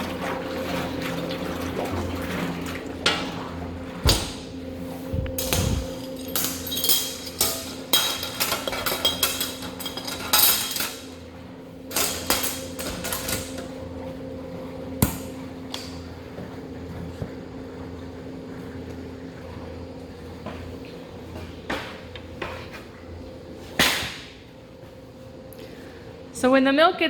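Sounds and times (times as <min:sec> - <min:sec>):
cooling machinery hum: 0:00.0 - 0:27.0.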